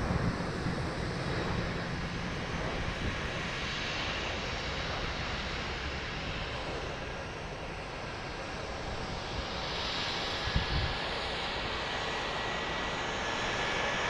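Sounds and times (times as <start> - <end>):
distant jet engine rumble: 0.0 - 14.0.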